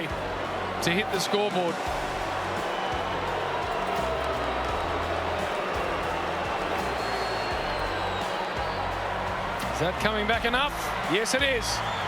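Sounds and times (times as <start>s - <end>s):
stadium crowd noise: 0.0s - 12.0s.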